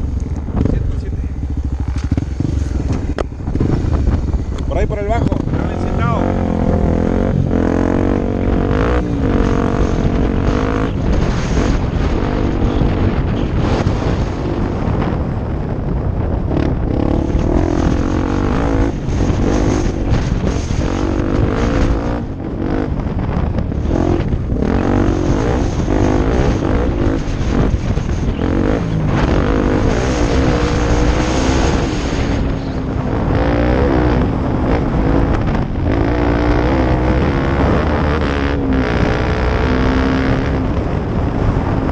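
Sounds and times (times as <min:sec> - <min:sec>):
off-road motorcycle engine revving: 0:00.0 - 0:41.9.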